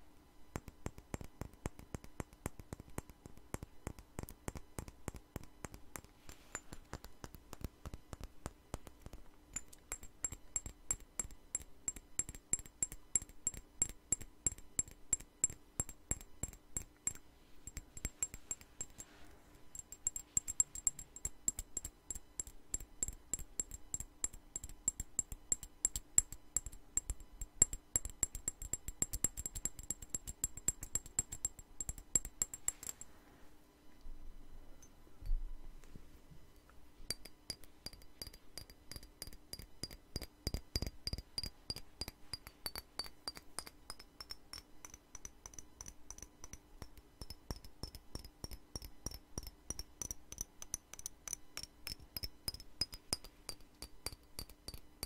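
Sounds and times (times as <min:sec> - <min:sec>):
fingernails tapping on glass bottle: 0:00.6 - 0:33.1, 0:37.1 - 0:54.9.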